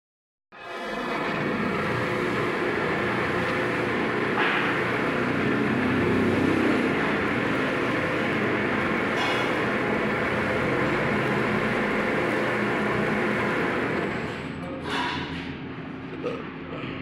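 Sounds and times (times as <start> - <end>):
roll-forming machine rumble: 0.6 - 14.6.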